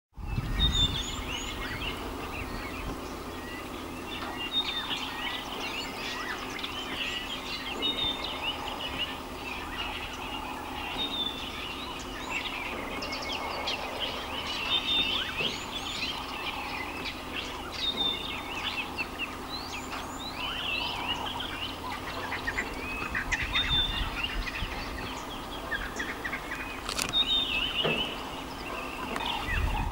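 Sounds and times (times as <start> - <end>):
birds chirping and calling: 0.2 - 29.9
low background noise: 0.2 - 29.9.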